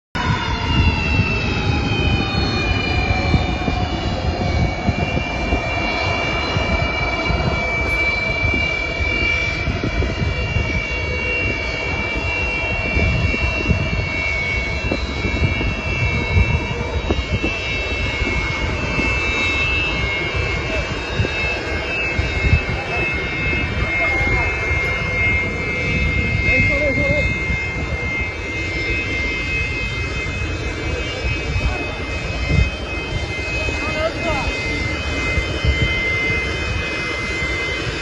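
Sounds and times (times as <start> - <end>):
jet engine whine: 0.2 - 38.0.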